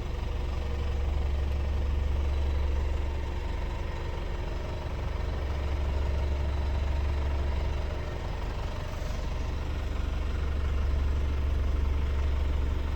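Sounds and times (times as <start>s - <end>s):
diesel truck engine idling: 0.0s - 12.9s.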